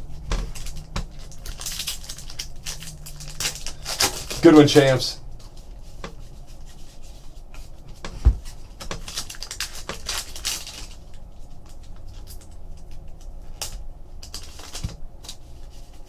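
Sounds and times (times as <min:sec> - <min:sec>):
trading cards clicking and rustling: 0:00.0 - 0:06.7, 0:08.0 - 0:16.0.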